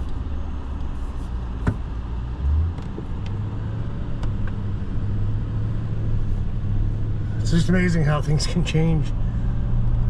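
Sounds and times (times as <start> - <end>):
vehicle engine and road drone: 0.0 - 10.0.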